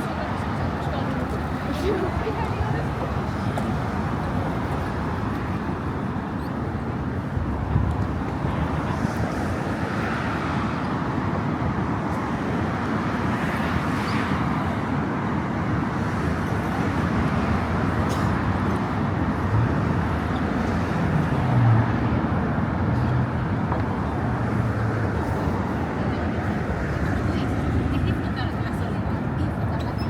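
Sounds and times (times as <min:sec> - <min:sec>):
road traffic passing cars: 0:00.0 - 0:30.0.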